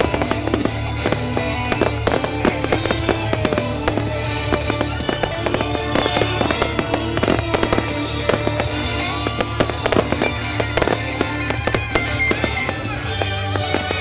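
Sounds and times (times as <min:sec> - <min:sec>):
fireworks crackling and banging: 0:00.0 - 0:14.0
music over public address system: 0:00.0 - 0:14.0.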